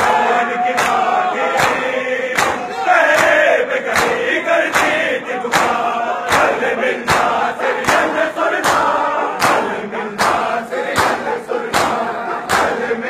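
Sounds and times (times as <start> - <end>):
crowd of men chanting: 0.0 - 13.0
hand-slaps on the chest: 0.8 - 1.0, 1.6 - 1.8, 2.4 - 12.8.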